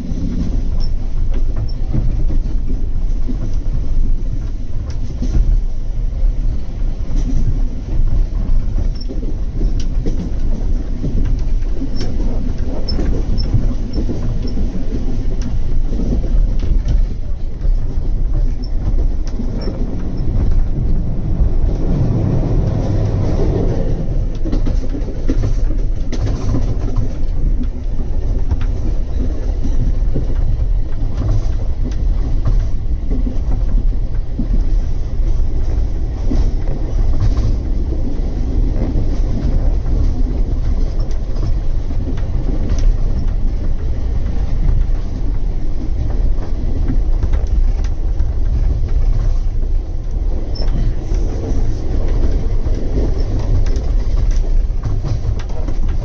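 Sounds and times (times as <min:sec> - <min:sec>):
moving vehicle rumble: 0:00.0 - 0:56.0.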